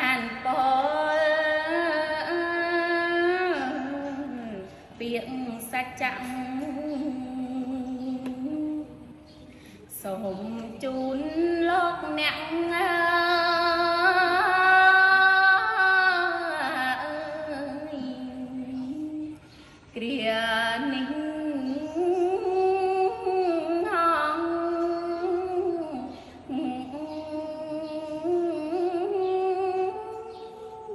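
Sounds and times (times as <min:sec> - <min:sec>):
woman chanting long wavering notes: 0:00.0 - 0:09.3, 0:09.9 - 0:30.9.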